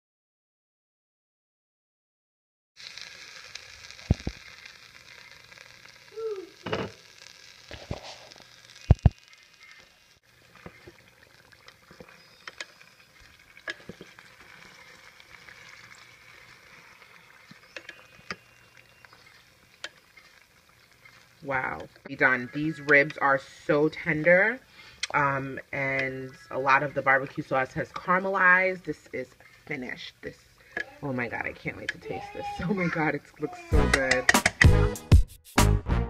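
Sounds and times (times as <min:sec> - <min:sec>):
sauce sizzling and bubbling: 0:02.8 - 0:34.6.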